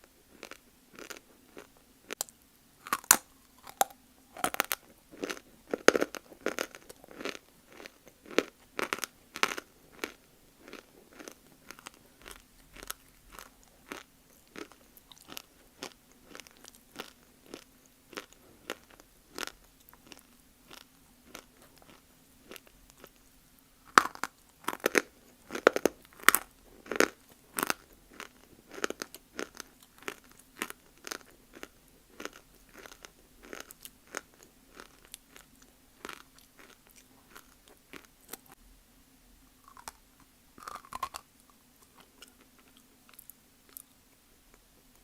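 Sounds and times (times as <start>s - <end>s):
soft chewing: 0.3s - 38.6s, 39.6s - 45.0s.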